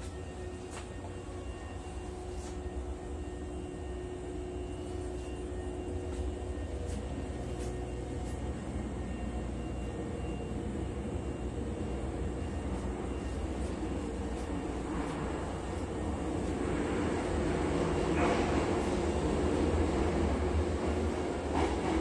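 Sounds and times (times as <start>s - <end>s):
faint hum: 0.0s - 21.7s
train car rumble from inside: 0.0s - 22.0s.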